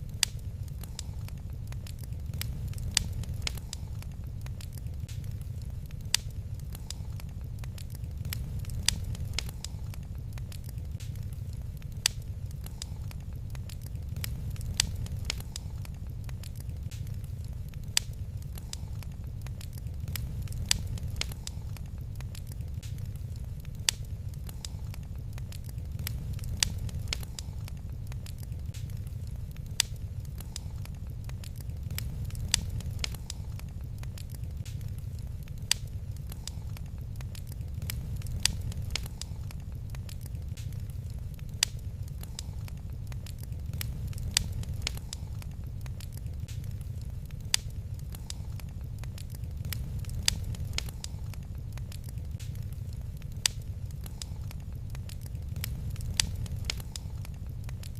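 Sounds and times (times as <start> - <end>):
sharp fire pops: 0.0 - 57.9
wood fire crackling: 0.0 - 57.9.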